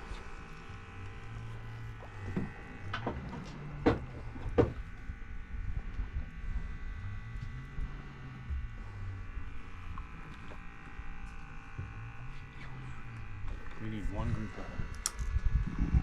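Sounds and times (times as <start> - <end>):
low buzzing hum: 0.0 - 16.0.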